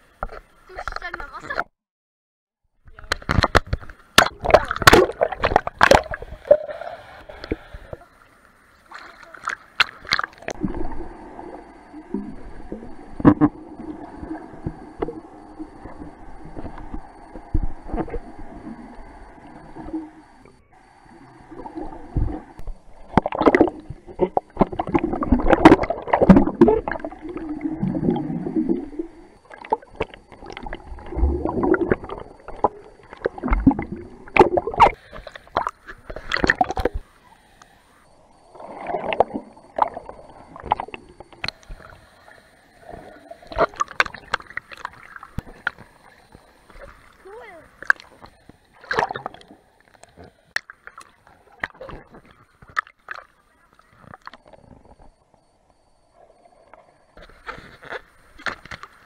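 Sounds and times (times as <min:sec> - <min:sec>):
pool water sloshing and splashing: 0:02.9 - 0:37.3, 0:38.5 - 0:55.0.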